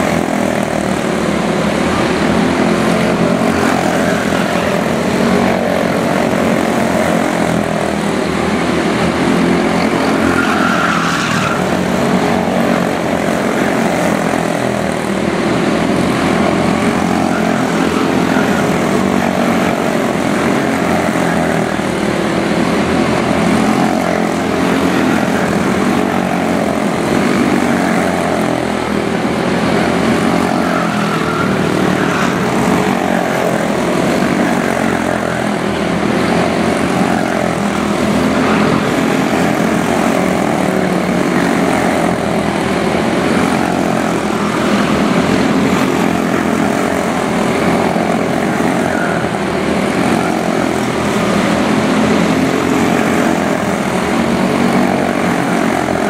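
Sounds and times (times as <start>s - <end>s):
small race car engines buzzing: 0.0s - 56.0s.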